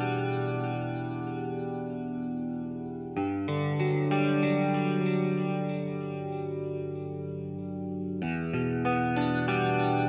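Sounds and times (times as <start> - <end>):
instrumental music sustained chord: 0.0 - 10.0.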